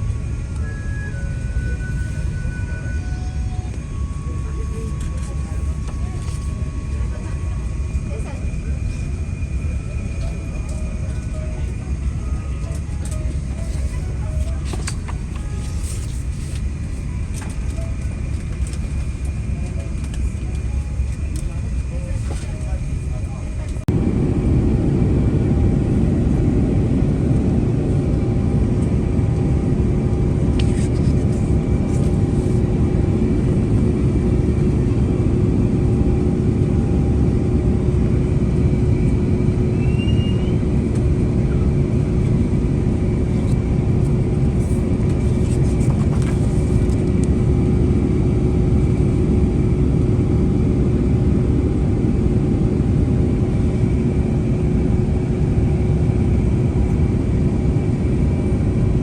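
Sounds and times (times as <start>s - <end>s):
jet engines rumbling: 0.0s - 59.0s
rushing air in cabin: 0.0s - 59.0s
steady hum: 0.0s - 59.0s.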